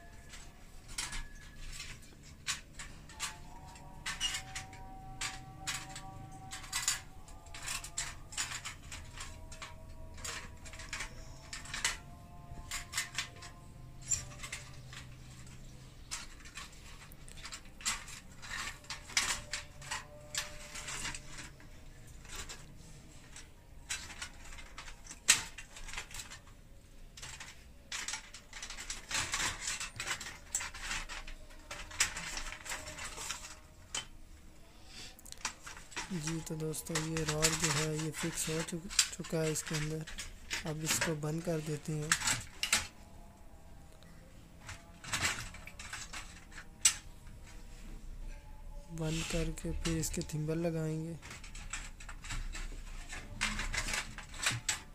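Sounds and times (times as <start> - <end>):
metallic clicks and rattles: 0.0 - 34.6, 35.2 - 48.4, 49.0 - 54.9.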